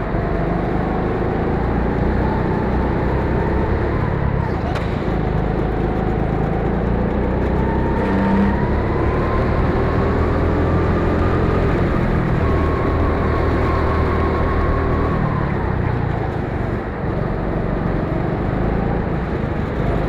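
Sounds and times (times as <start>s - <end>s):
go-kart engine revving: 0.0s - 20.0s.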